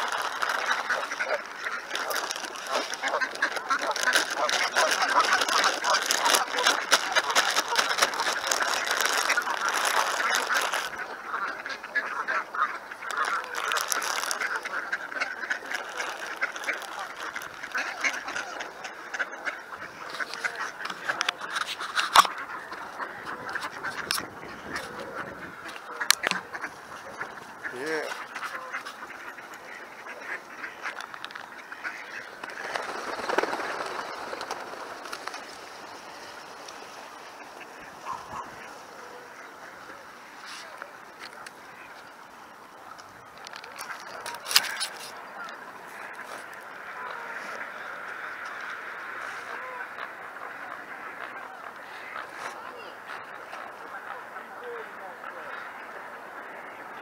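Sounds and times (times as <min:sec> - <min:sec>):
ducks quacking: 0:00.0 - 0:57.0.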